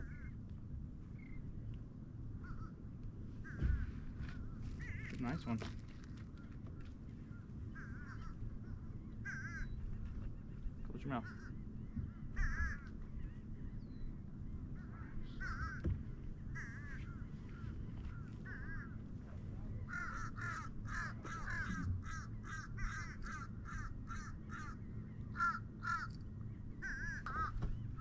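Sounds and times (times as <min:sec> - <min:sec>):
birds calling: 0:01.1 - 0:28.0.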